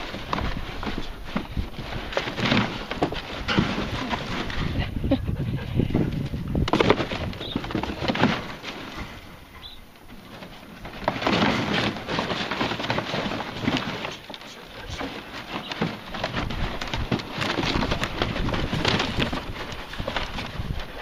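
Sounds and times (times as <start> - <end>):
cardboard rustling and scraping: 0.0 - 5.1, 6.0 - 21.0.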